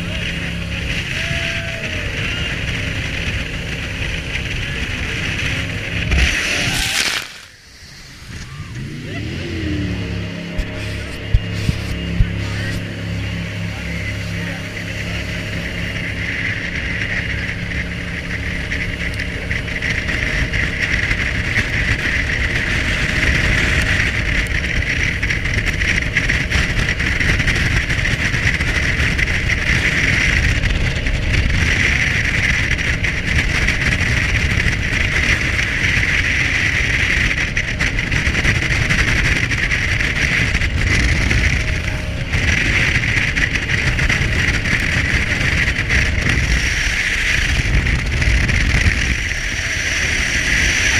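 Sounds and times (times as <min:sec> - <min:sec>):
boat engine drone: 0:00.0 - 0:50.9.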